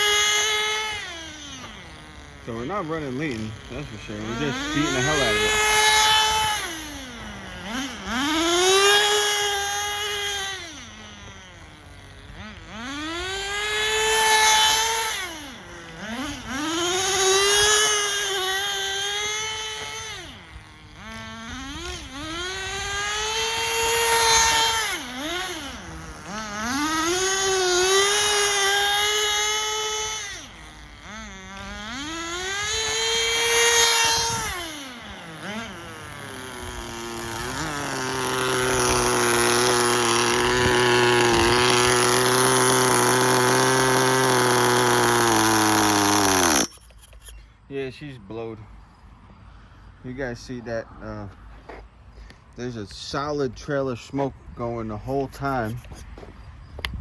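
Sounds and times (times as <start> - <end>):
rc car engine revving: 0.0 - 47.8.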